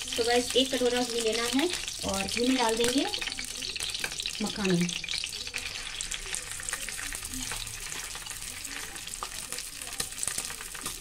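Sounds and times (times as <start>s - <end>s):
nuts sizzling in hot oil: 0.0s - 11.0s.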